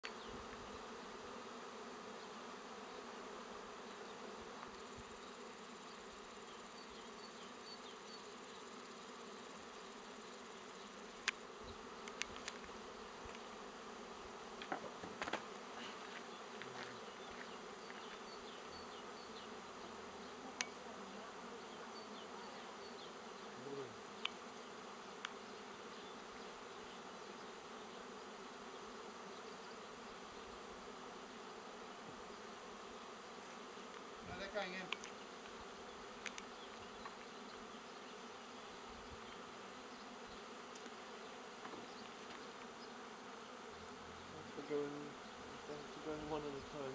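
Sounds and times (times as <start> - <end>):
bee swarm buzzing: 0.0 - 46.9.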